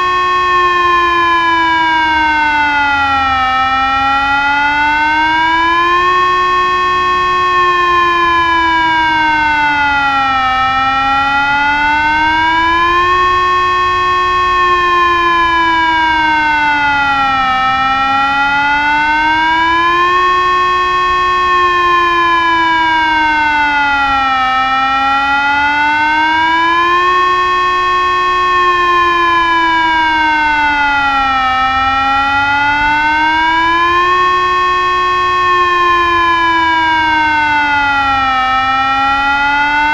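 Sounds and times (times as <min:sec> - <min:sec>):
electronic siren wailing: 0:00.0 - 0:39.9.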